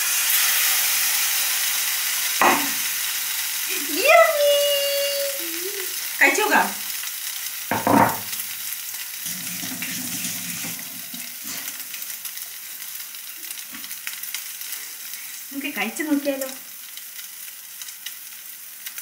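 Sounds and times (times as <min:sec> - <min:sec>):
bread sizzling in a pan: 0:00.0 - 0:19.0.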